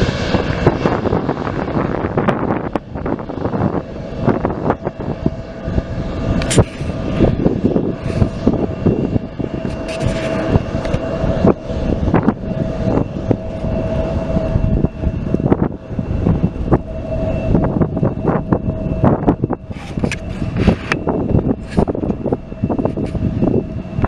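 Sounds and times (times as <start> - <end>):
jet engines rumbling and whining: 0.0 - 24.0
wind buffeting microphone: 0.0 - 24.0.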